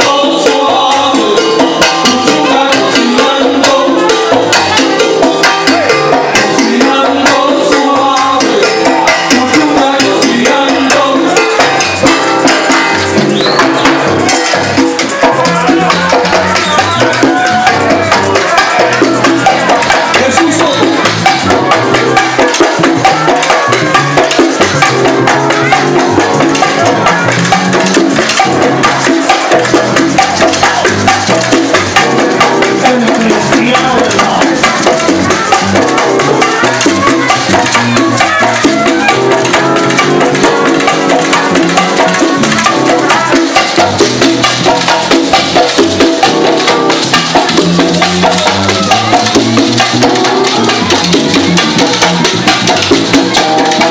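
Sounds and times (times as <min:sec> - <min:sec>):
driving percussion rhythm: 0:00.0 - 0:53.9
salsa band playing: 0:00.0 - 0:53.9.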